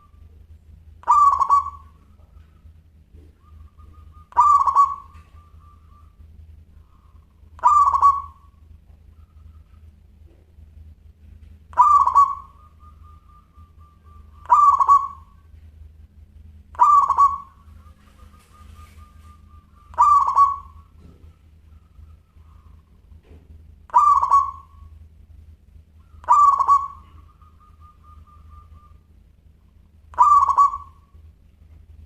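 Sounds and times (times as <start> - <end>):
dove cooing: 0.0 - 10.4, 11.7 - 15.6, 16.7 - 25.0, 25.9 - 31.4
faint low hum: 0.0 - 32.0.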